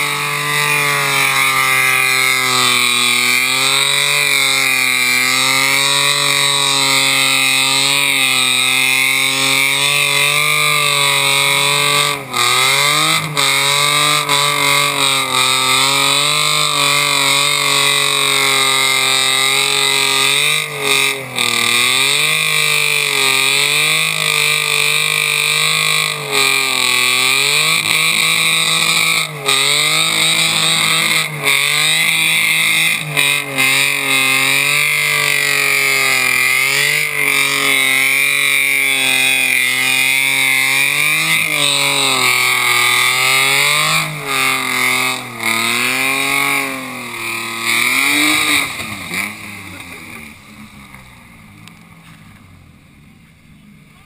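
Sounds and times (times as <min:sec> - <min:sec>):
car engine revving high: 0:00.0 - 0:52.2.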